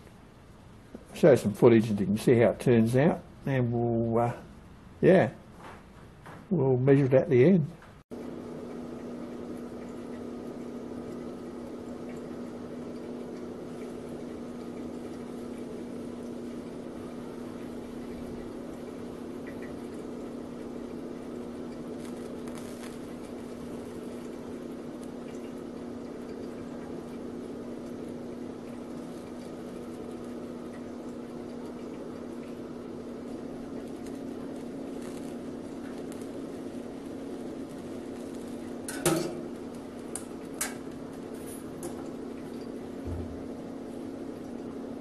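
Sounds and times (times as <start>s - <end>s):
brazing torch setup humming: 0.0s - 45.0s
liquid bubbling: 8.1s - 45.0s.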